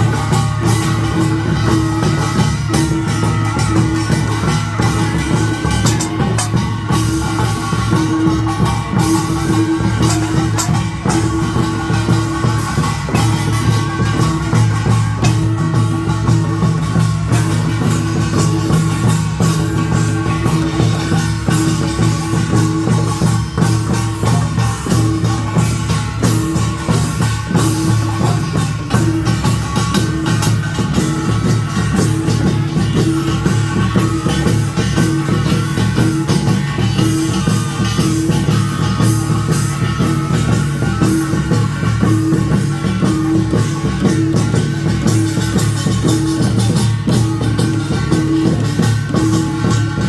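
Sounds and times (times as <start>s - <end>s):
drums beating: 0.0s - 50.0s
hand gongs ringing: 0.0s - 50.0s.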